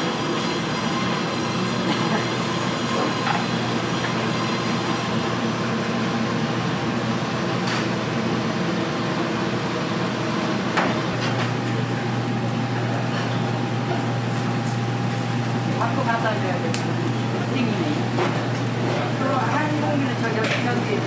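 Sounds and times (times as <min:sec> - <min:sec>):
steady mechanical noise: 0:00.0 - 0:21.0.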